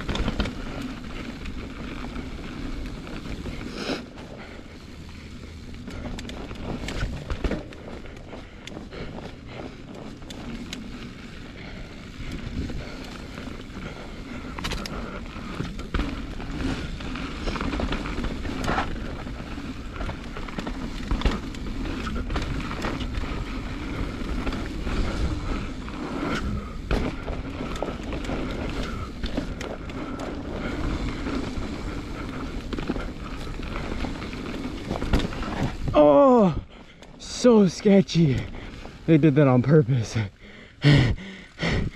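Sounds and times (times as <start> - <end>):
tyres rolling over dirt: 0.0 - 36.6
bike clicks and rattles: 0.0 - 41.9.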